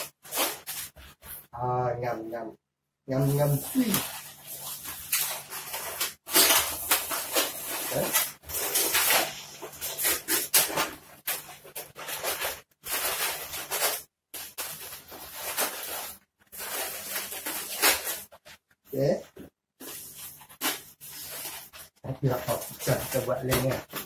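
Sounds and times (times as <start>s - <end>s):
balloons squeaking and rubbing: 0.0s - 1.7s, 3.1s - 24.0s.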